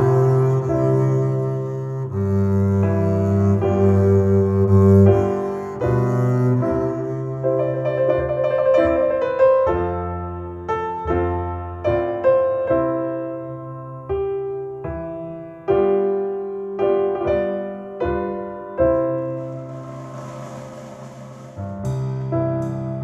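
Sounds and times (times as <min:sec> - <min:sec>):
slow piano chords over loudspeakers: 0:00.0 - 0:23.0.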